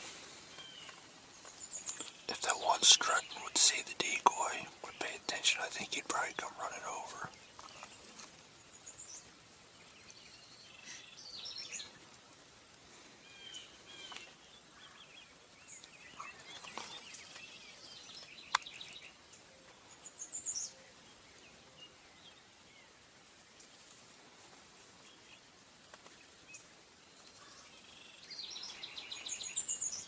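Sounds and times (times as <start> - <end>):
songbirds chirping: 0.1 - 30.0.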